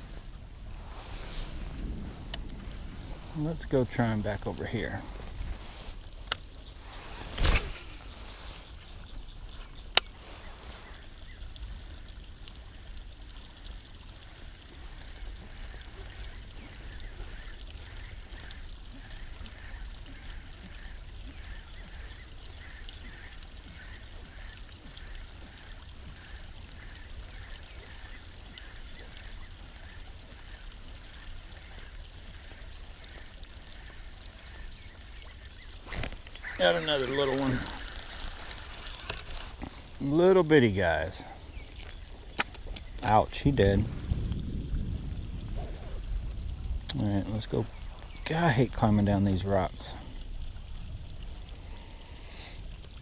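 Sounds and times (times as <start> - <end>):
wind rumble on microphone: 0.0 - 53.0.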